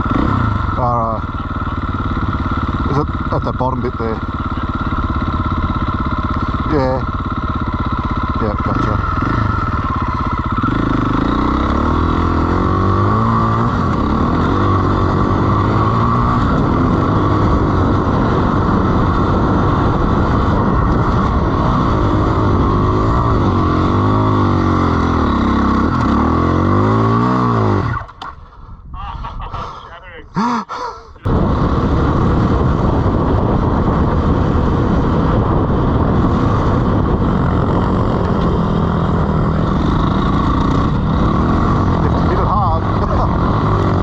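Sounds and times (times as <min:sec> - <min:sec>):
dirt bike engine revving: 0:00.0 - 0:28.4, 0:30.4 - 0:44.0.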